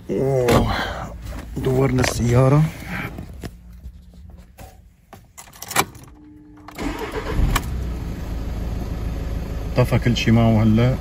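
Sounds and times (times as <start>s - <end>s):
car engine cranking and idling: 0.0s - 11.0s.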